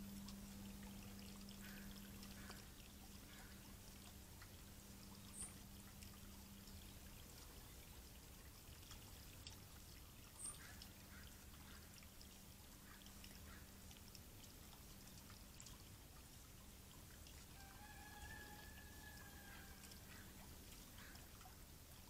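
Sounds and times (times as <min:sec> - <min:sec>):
steady low hum: 0:00.0 - 0:17.8
fountain water trickling: 0:00.0 - 0:22.0.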